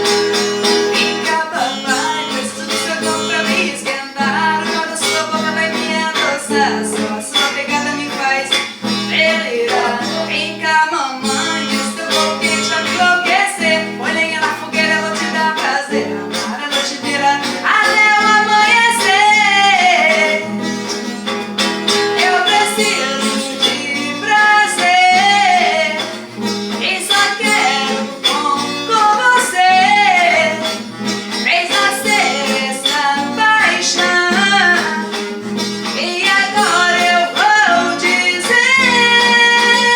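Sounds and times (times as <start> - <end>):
guitar accompaniment: 0.0 - 39.9
woman singing with vibrato: 0.0 - 39.9.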